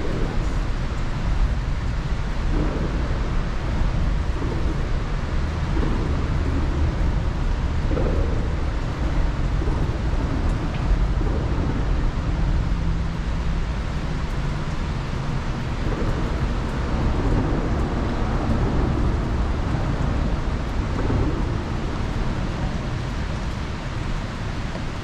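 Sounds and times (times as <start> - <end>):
water draining with echoing rumble: 0.0 - 25.0.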